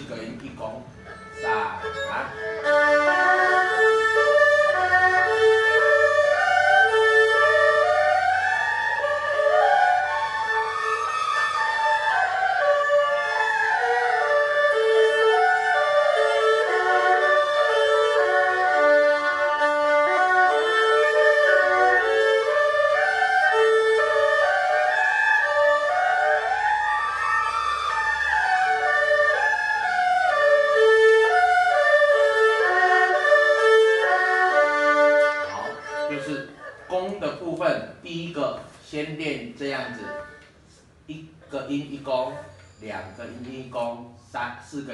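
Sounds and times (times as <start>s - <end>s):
erhu playing arpeggios: 0.0s - 37.3s, 39.4s - 40.6s.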